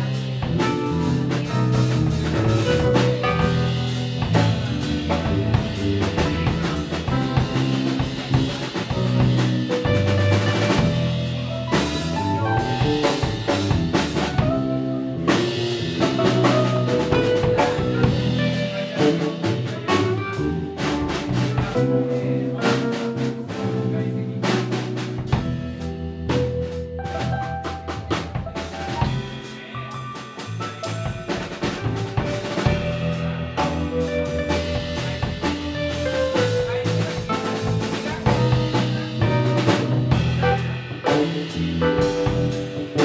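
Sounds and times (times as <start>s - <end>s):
drum kit: 0.0s - 43.0s
electric bass guitar: 0.0s - 43.0s
electric keyboard: 0.0s - 43.0s.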